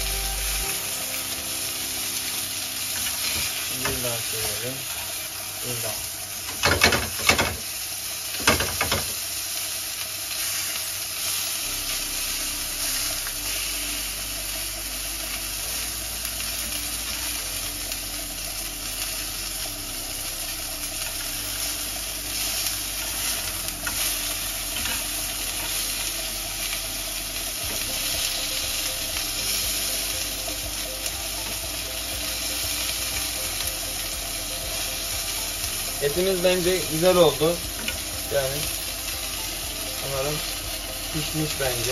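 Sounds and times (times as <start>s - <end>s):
steaks sizzling in a frying pan: 0.0s - 41.9s.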